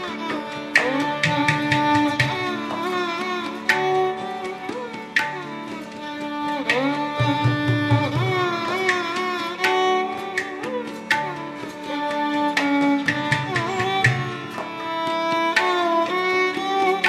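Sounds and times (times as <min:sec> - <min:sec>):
plucked string notes: 0:00.0 - 0:17.0
tabla drumming: 0:00.0 - 0:17.0
violin sliding melody: 0:00.0 - 0:17.0.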